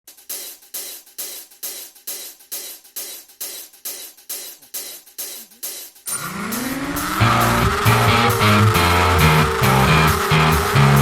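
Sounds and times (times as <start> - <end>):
music with percussion beat: 0.1 - 11.0
cymbal-like hits: 0.3 - 11.0.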